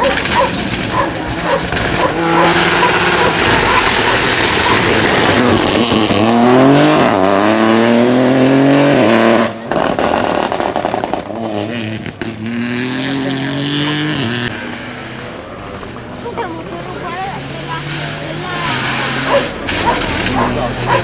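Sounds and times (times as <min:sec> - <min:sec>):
exhaust crackles and pops: 0:00.0 - 0:07.4, 0:09.5 - 0:21.0
rally car engine at full throttle: 0:00.0 - 0:21.0.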